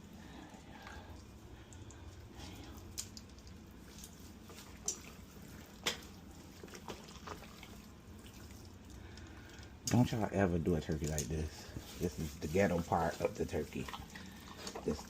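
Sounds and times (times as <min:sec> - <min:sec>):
wet squishing of hands on meat: 0:00.0 - 0:15.0.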